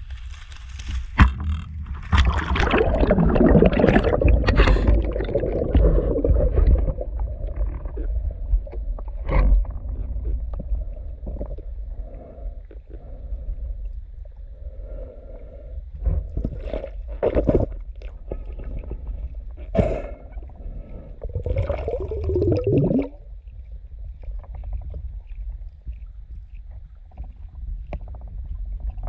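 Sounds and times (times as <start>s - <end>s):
underwater low rumble: 0.0s - 29.0s
underwater gurgling bubbles: 1.4s - 13.2s, 16.2s - 29.0s.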